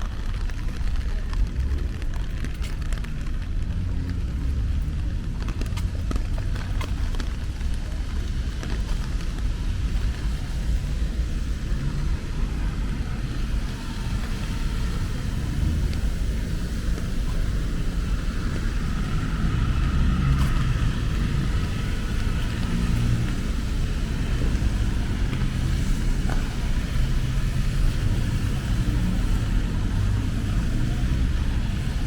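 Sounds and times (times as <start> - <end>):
rain hiss: 0.0 - 32.0
traffic rumble: 0.0 - 32.0.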